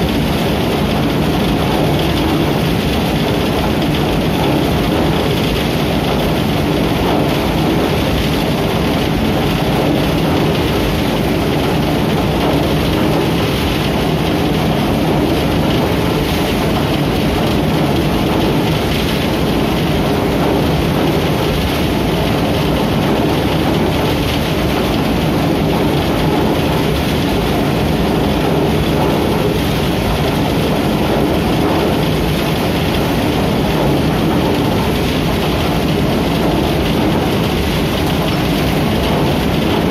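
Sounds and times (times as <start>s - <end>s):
threshing machine running: 0.0s - 39.9s.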